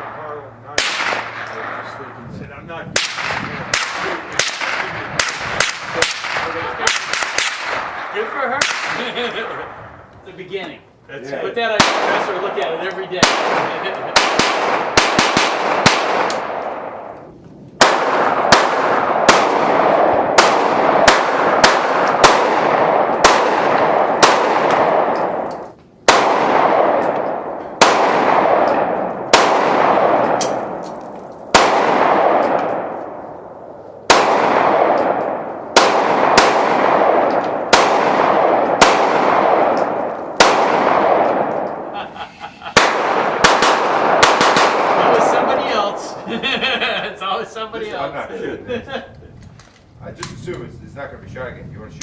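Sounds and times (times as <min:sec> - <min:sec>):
gunshots with echo: 0:00.0 - 0:02.2, 0:02.9 - 0:09.9, 0:11.6 - 0:17.2, 0:17.8 - 0:46.7.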